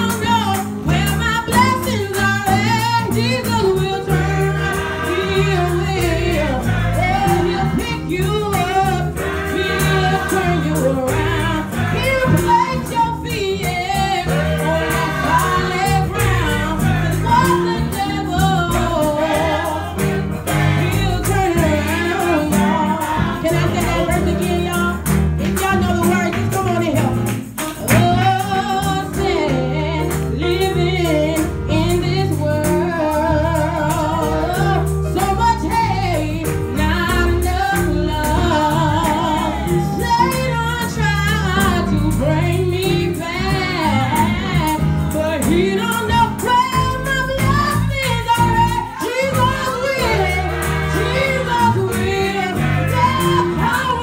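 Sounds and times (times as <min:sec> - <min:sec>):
low instrumental backing: 0:00.0 - 0:54.0
women's gospel group singing: 0:00.0 - 0:54.0.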